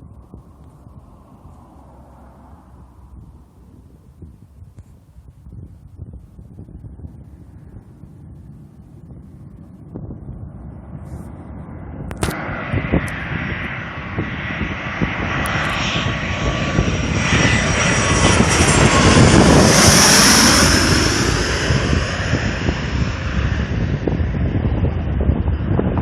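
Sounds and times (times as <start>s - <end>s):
jet passing overhead: 0.0s - 26.0s.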